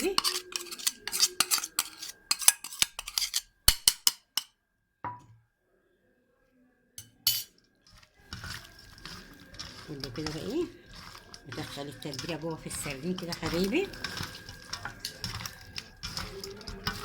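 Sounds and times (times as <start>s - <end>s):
spoon scraping against bowl: 0.0s - 4.5s, 7.3s - 17.0s.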